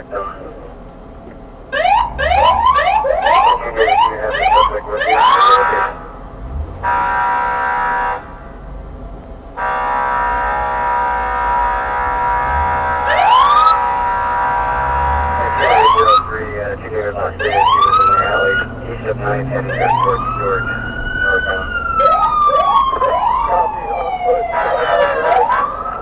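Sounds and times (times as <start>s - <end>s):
police siren: 1.7s - 6.2s, 9.6s - 26.0s.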